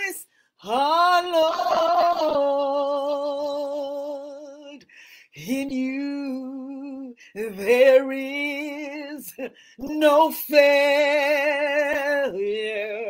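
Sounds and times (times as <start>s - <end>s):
woman singing gospel unaccompanied: 0.0s - 13.0s.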